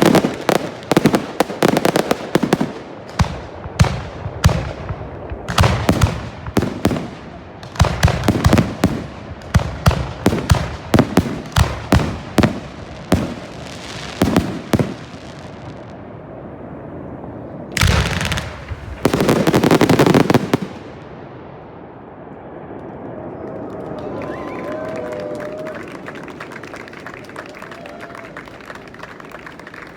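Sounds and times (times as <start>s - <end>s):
fireworks crackling: 0.0s - 29.9s.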